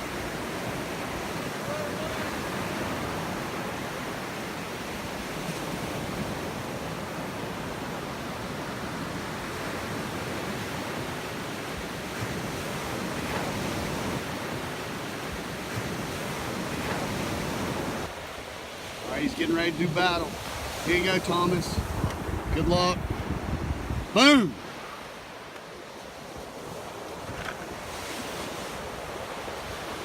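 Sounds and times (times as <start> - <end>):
surf breaking on beach: 0.0 - 30.0.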